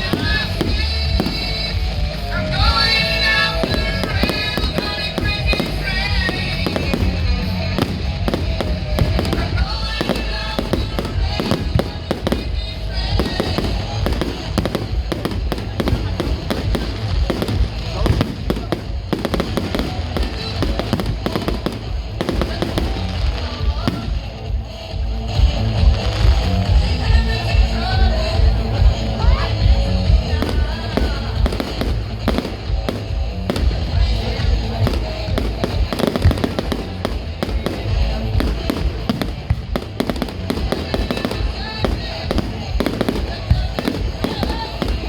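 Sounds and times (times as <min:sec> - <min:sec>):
deep rumble: 0:00.0 - 0:45.0
fireworks crackling and banging: 0:00.0 - 0:45.0
music playing: 0:00.0 - 0:45.0.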